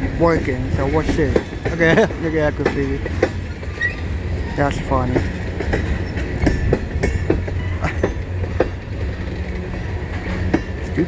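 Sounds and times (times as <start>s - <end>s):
freight train wheels rumbling on rail: 0.0s - 11.0s
train cars clicking and clanking: 0.0s - 11.0s.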